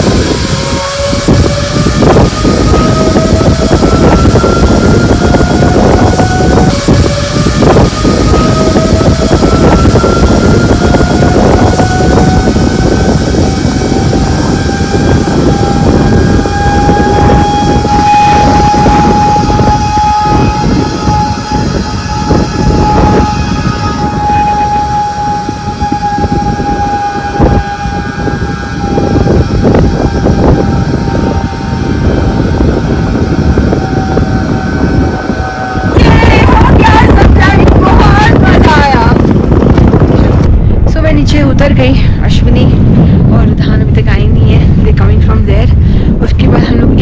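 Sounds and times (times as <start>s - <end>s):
zip-line pulleys whining on cable: 0.0s - 40.5s
wind buffeting microphone: 0.0s - 47.0s.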